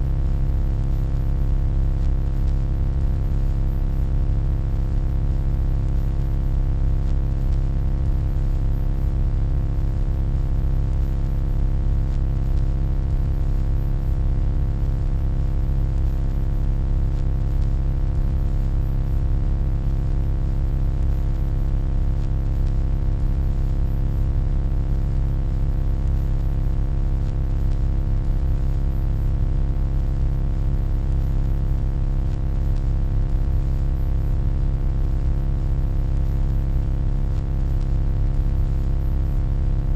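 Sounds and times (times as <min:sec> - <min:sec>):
low electronic hum: 0:00.0 - 0:39.9.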